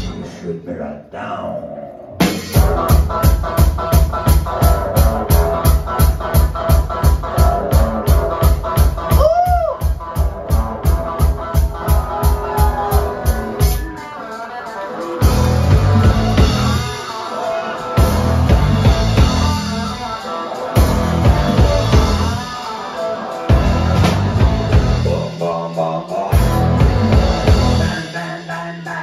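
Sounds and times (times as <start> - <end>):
drum kit: 0.0 - 0.5, 2.2 - 29.0
electric bass: 0.0 - 0.9, 1.5 - 14.0, 15.2 - 17.1, 17.8 - 22.7, 23.4 - 28.7
electric guitar: 1.8 - 29.0.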